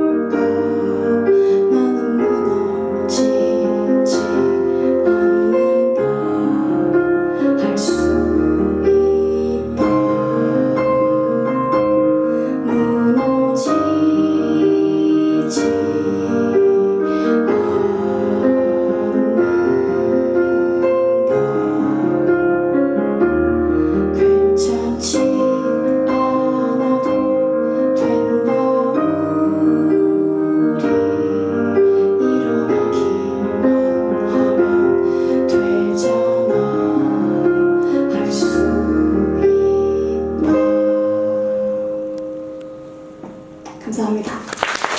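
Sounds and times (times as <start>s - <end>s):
piano ballad: 0.0s - 44.9s.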